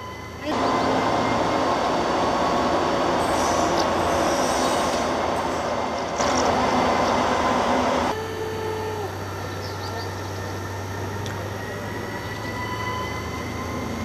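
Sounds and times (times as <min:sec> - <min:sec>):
railcar engine and running gear rumble: 0:00.0 - 0:14.0.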